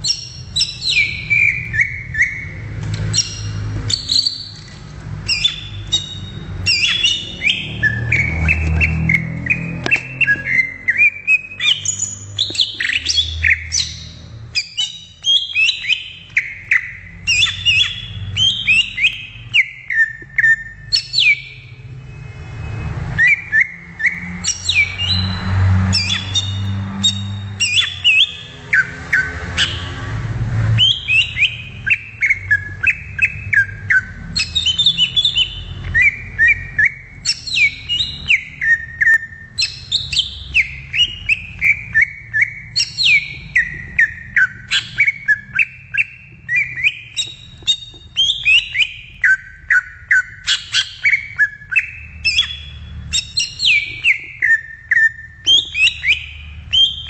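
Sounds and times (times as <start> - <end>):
bird singing whistles and chirps: 0.0 - 30.0, 30.7 - 57.0.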